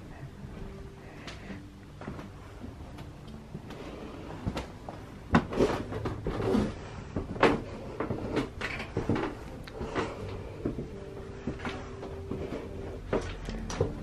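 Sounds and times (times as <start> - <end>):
footsteps on wooden stairs: 0.5 - 14.0.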